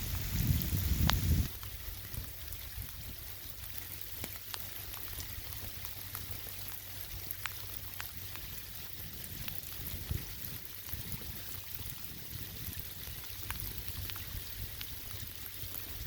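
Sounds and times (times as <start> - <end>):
wind rumble: 0.0 - 4.4, 7.1 - 16.0
rain hissing: 0.0 - 16.0
raindrops ticking: 0.0 - 16.0.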